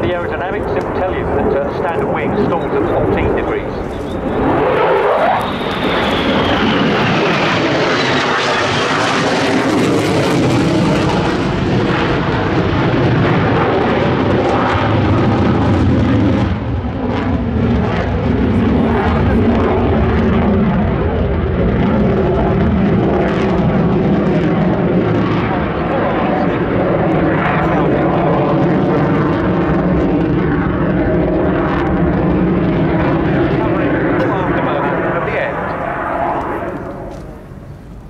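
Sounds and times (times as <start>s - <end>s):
jet fighter flying past: 0.0s - 38.0s.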